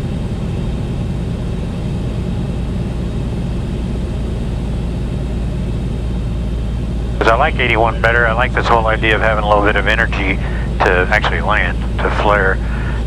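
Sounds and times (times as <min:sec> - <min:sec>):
aircraft engine throttled back: 0:00.0 - 0:13.0.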